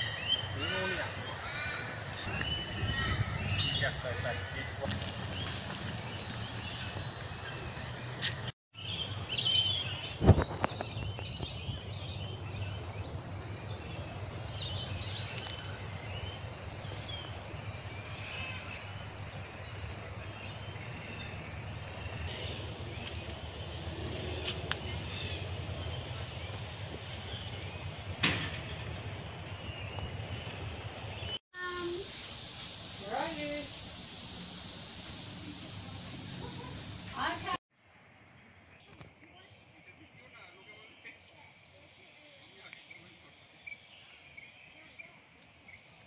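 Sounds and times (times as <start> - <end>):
small birds chirping: 0.0 - 37.6, 38.7 - 46.0.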